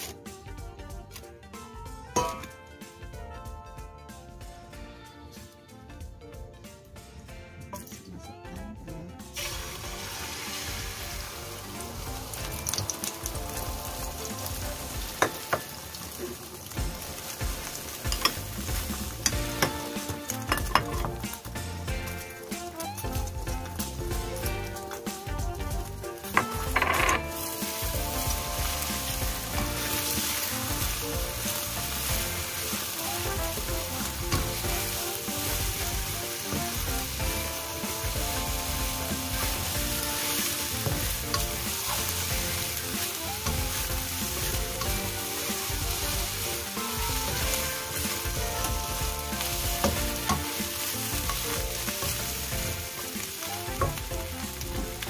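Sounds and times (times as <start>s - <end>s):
egg sizzling in oil: 9.4s - 55.0s
spatula stirring in wok: 9.4s - 55.0s.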